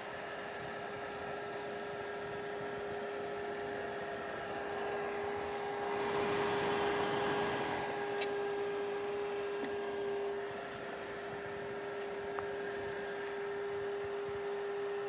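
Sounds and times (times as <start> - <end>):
clothes dryer fan hum: 0.0 - 15.0.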